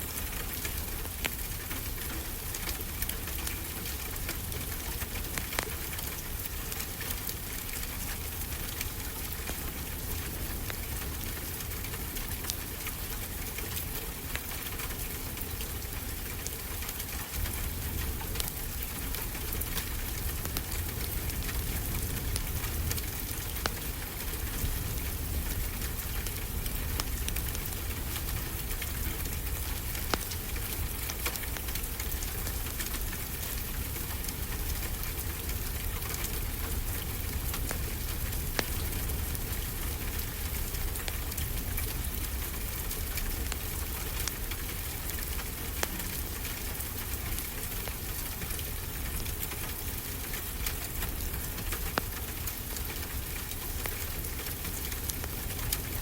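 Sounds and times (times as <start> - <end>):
steady rain: 0.0 - 56.0
wood fire crackling and popping: 0.1 - 56.0.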